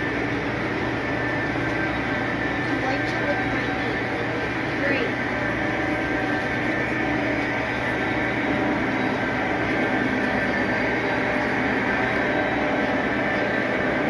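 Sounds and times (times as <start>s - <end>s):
electric motor hum: 0.0s - 14.0s.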